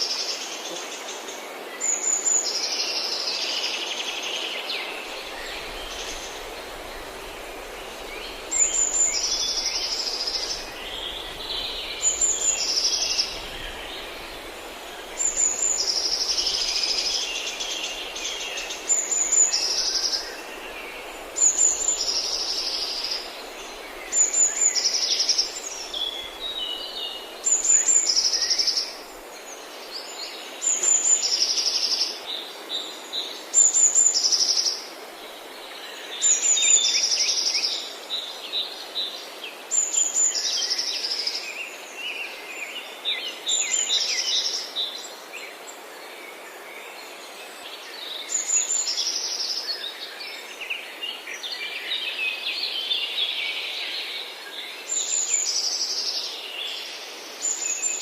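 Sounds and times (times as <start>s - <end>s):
background hiss: 0.0s - 58.0s
bird song with trill: 0.0s - 58.0s
birds chirping faintly: 0.0s - 58.0s.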